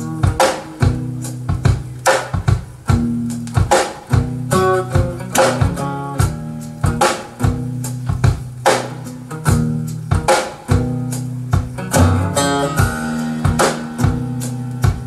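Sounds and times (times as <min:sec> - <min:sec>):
drum hits: 0:00.0 - 0:15.0
plucked guitar: 0:00.0 - 0:15.0.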